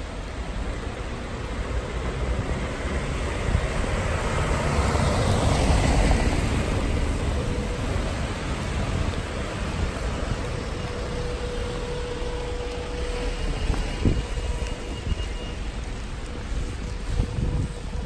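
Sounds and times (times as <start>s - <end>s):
van driving on wet cobblestones: 0.0s - 18.0s
wind rumble on microphone: 0.0s - 18.0s.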